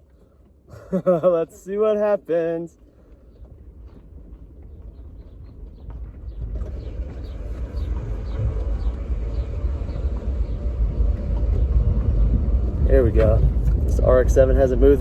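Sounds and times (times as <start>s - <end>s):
vehicle rumble and rolling noise: 0.0s - 15.0s.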